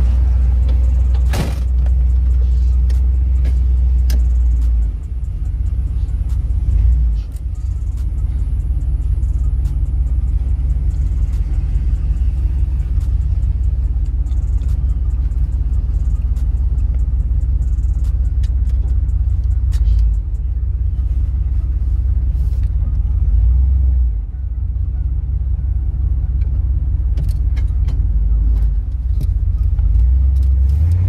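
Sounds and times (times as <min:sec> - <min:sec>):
car engine rumble from inside: 0:00.0 - 0:31.0.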